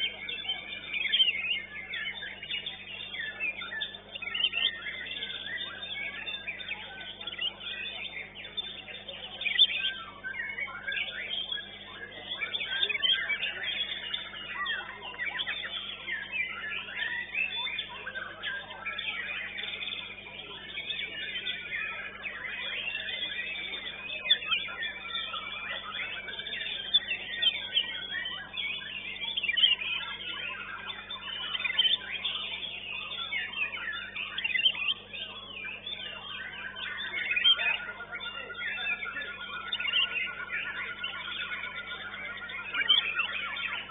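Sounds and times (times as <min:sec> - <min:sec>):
songbird whistles and trills: 0:00.0 - 0:43.9.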